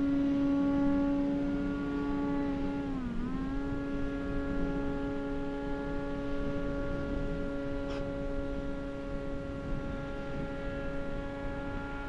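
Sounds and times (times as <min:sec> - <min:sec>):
model plane motor whine: 0:00.0 - 0:12.0
wind rumble on microphone: 0:00.0 - 0:12.0.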